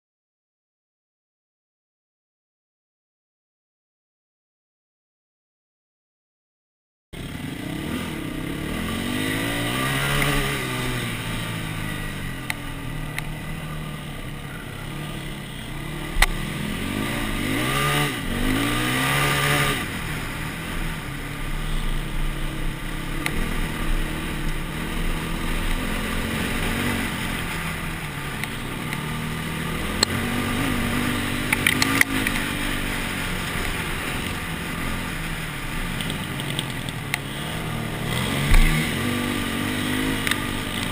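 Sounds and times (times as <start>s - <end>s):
dirt bike engine revving: 7.2s - 40.9s.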